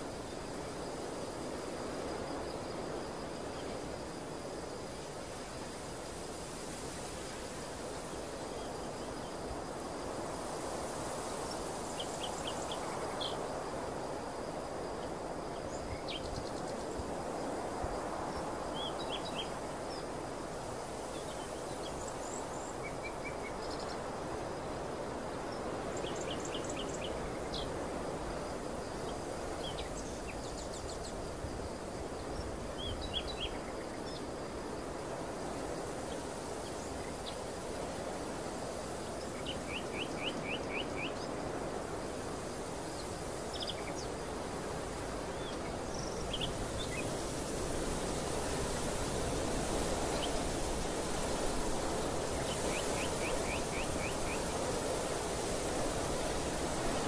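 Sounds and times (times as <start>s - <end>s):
wind rustling through field: 0.0s - 57.0s.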